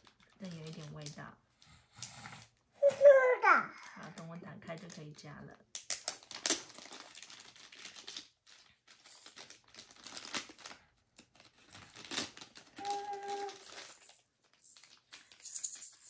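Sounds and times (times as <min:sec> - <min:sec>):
plastic packaging crinkling and tearing: 0:00.0 - 0:01.3, 0:02.0 - 0:15.7.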